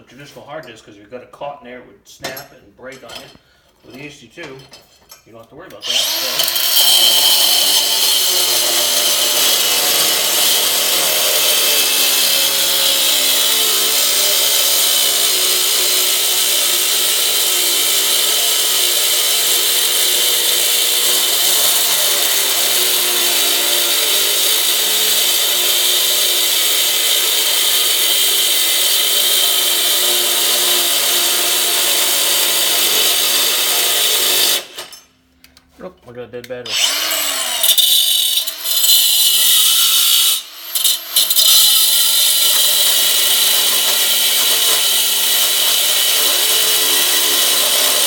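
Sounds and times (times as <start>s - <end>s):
angle grinder cutting metal: 5.8s - 35.1s, 36.7s - 48.0s.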